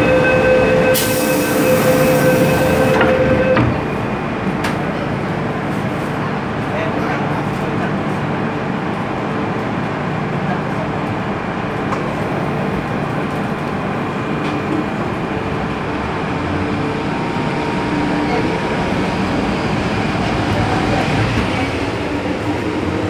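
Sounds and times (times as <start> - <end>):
train rumbling in motion: 0.0 - 23.0.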